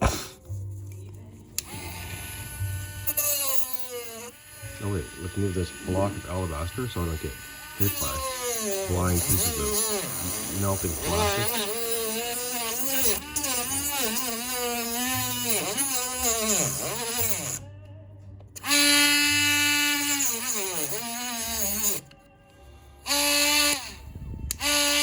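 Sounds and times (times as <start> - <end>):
electric cutting tool buzzing: 1.6 - 17.7, 18.6 - 22.2, 23.0 - 25.0.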